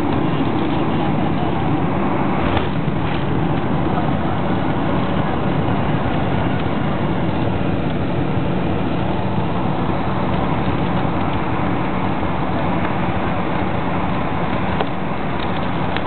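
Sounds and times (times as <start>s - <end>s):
jet engines roaring: 0.0s - 16.0s
rushing air: 0.0s - 16.0s.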